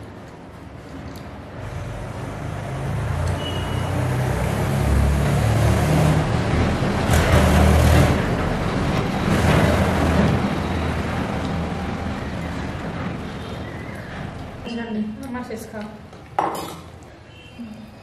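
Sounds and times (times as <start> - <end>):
vehicle engine and road noise: 0.0 - 14.8.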